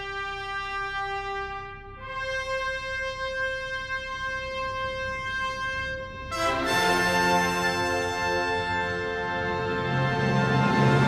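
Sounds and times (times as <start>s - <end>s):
background music chords: 0.0s - 11.0s.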